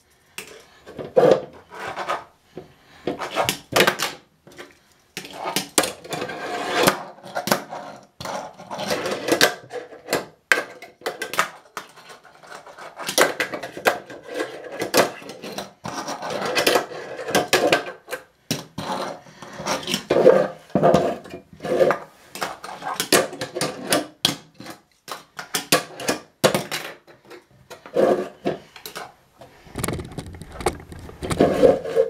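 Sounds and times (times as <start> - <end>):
fingerboard wheels rolling on plastic: 0.5 - 24.9, 25.5 - 32.0.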